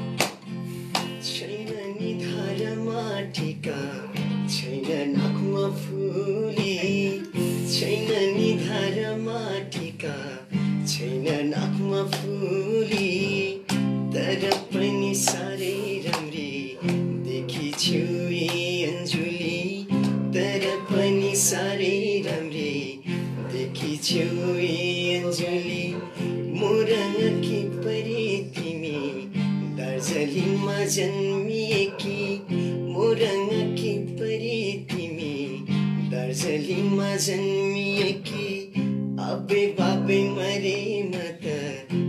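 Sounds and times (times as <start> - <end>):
acoustic guitar strumming: 0.0 - 42.0
man singing: 0.8 - 42.0.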